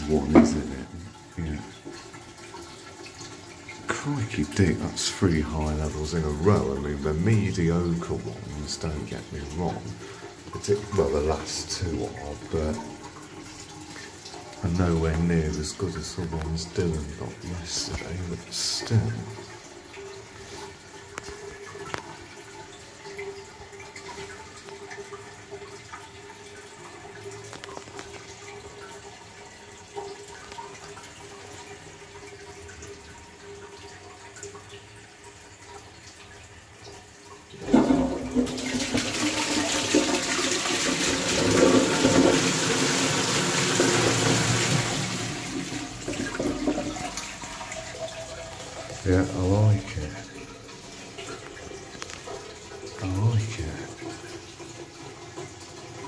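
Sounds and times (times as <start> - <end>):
toilet flush water rushing: 0.0 - 56.0.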